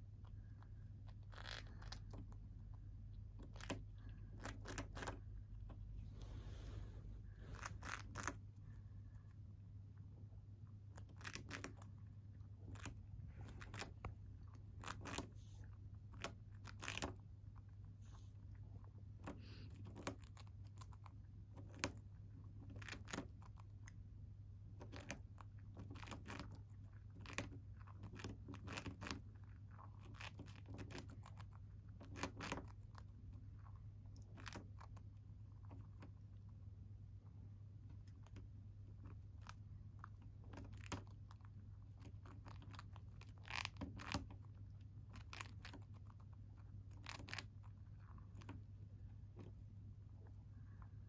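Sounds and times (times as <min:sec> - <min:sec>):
hamster gnawing food: 0:00.0 - 0:06.0, 0:07.0 - 0:51.0
steady low hum: 0:00.0 - 0:51.0.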